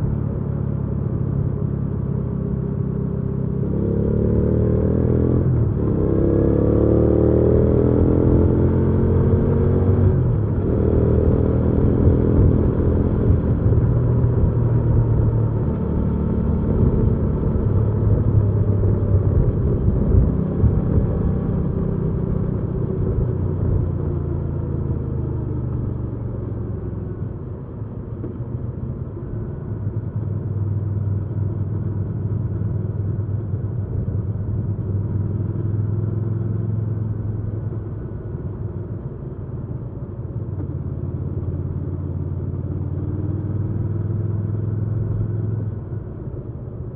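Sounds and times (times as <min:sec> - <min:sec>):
motorcycle engine accelerating: 0:00.0 - 0:38.7, 0:39.3 - 0:46.9.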